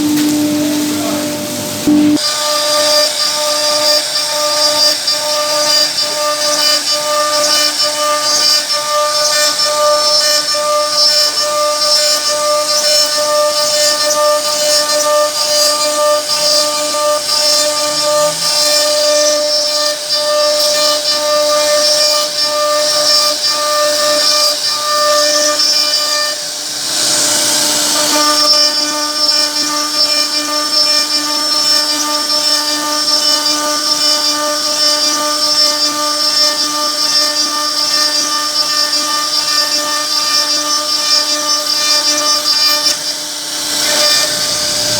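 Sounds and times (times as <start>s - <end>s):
router spindle whining: 0.0s - 44.9s.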